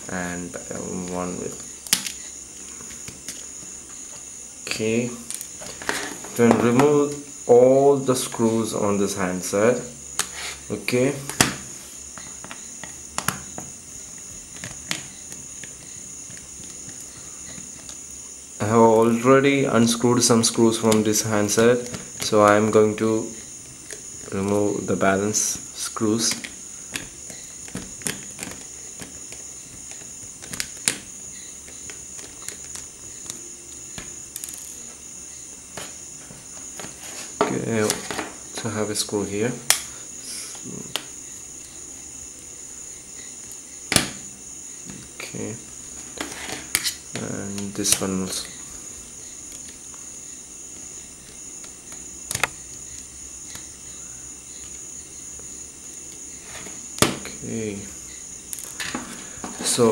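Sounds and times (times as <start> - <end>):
steady high-pitched whine: 0.0 - 59.9.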